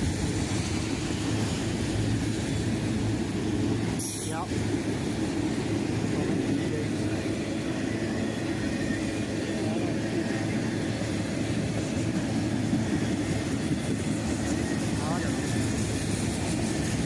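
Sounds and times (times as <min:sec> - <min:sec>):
freight train cars rumbling past: 0:00.0 - 0:17.0.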